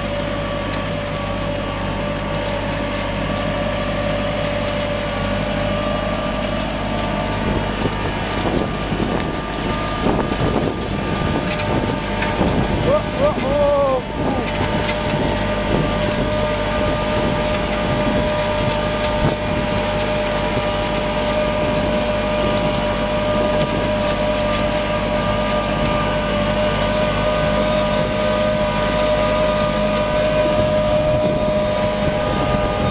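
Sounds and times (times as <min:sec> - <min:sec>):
steady whine: 0:00.0 - 0:32.9
tractor engine under load: 0:00.0 - 0:32.9.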